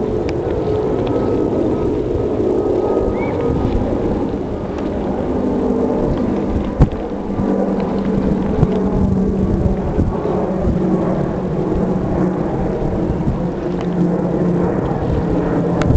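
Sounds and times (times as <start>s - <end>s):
boat engine hum: 0.0s - 15.9s
jet engine noise: 0.0s - 15.9s.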